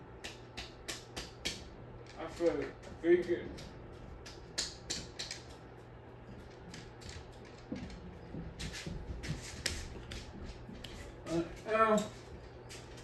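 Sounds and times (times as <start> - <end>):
ceiling fan motor hum: 0.0 - 13.0
fan ticking: 0.0 - 13.0.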